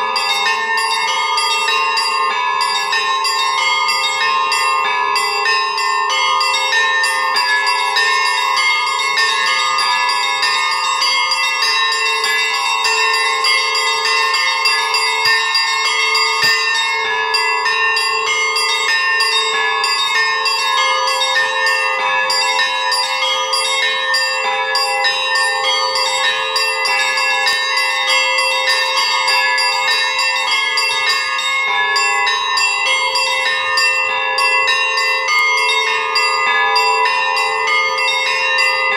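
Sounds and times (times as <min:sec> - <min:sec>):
high bells struck quickly: 0:00.0 - 0:38.9
lower bells ringing: 0:00.0 - 0:38.9.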